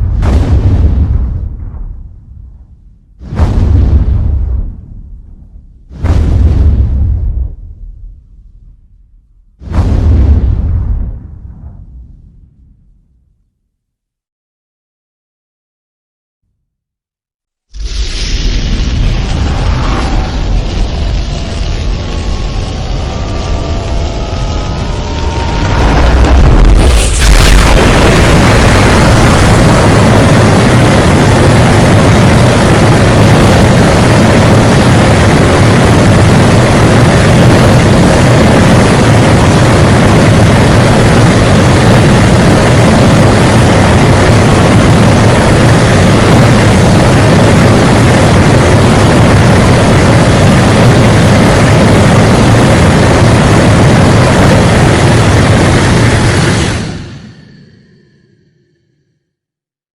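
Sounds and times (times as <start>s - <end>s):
dense rumbling noise: 0.0s - 13.5s, 17.7s - 59.0s.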